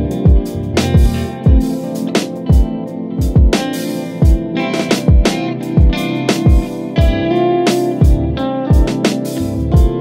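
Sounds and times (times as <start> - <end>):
chill guitar music with drum beat: 0.0 - 10.0.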